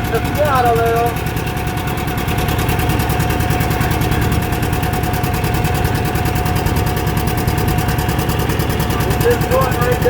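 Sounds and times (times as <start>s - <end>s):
tractor diesel engine popping: 0.0s - 10.0s.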